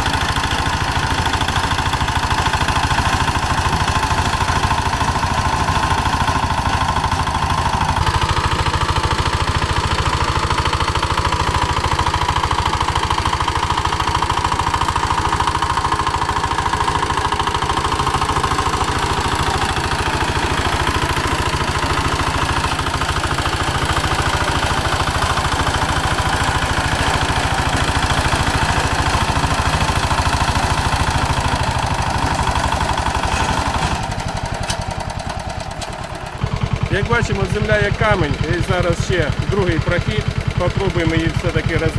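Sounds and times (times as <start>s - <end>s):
rotary tiller working hard soil: 0.0s - 41.9s
tractor engine running under load: 0.0s - 41.9s.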